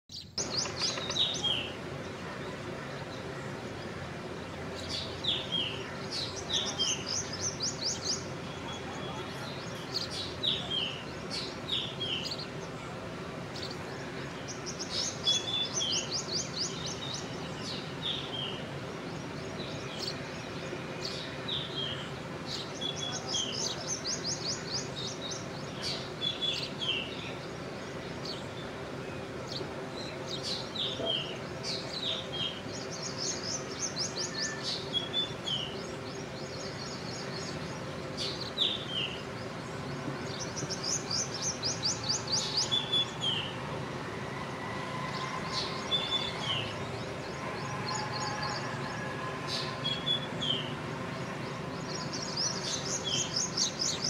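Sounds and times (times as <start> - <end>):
low background hum: 0.1 - 54.0.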